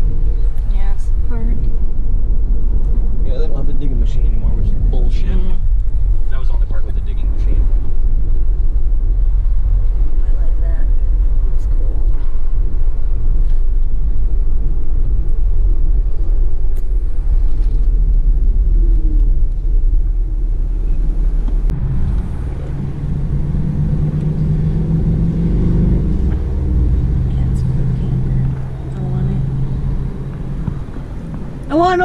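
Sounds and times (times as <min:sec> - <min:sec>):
car road rumble: 0:00.0 - 0:32.0
steady hum: 0:00.0 - 0:32.0.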